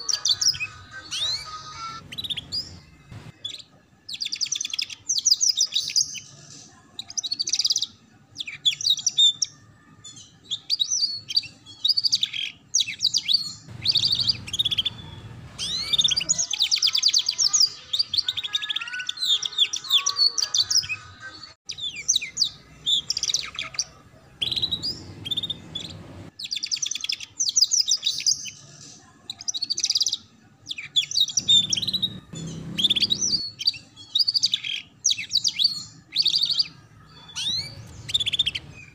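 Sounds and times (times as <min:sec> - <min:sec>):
canary singing: 0:00.0 - 0:28.7, 0:29.3 - 0:38.9.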